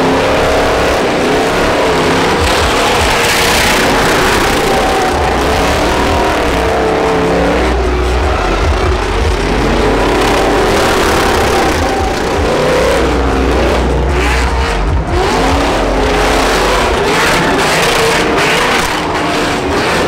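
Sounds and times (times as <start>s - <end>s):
truck engines revving high: 0.0s - 20.0s.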